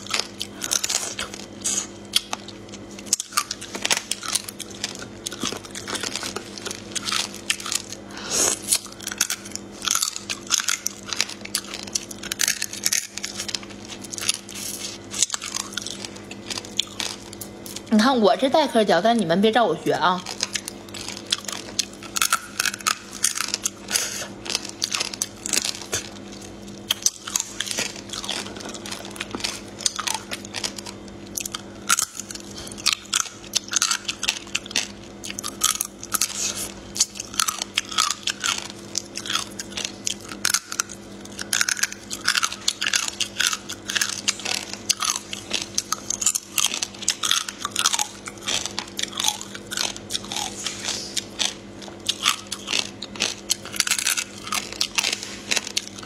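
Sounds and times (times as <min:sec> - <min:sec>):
crab shells crunching and cracking: 0:00.0 - 0:17.9, 0:20.2 - 0:56.0.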